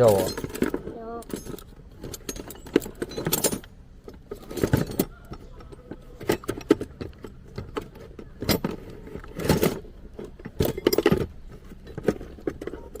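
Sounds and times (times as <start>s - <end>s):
metal parts rattling: 0.0s - 13.0s
metal tools clinking: 0.0s - 13.0s.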